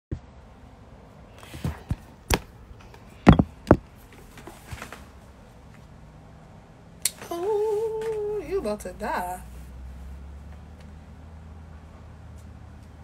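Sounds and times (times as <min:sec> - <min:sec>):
faint room noise: 0:00.2 - 0:13.0.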